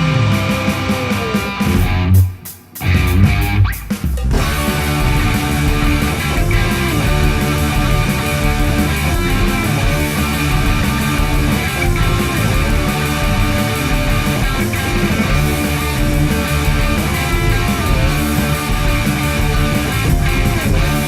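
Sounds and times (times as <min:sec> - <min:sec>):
electric guitar with bending notes: 0:00.0 - 0:21.0
hard rock band playing: 0:00.0 - 0:21.0.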